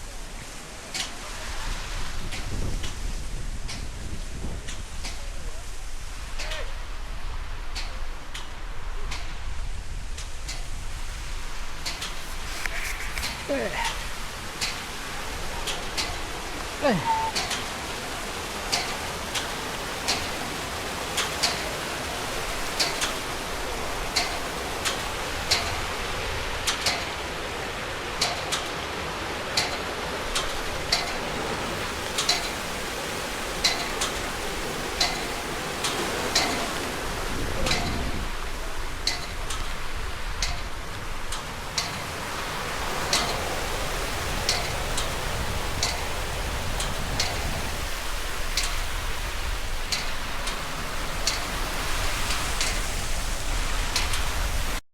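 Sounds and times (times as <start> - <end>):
river water rushing: 0.0 - 54.8.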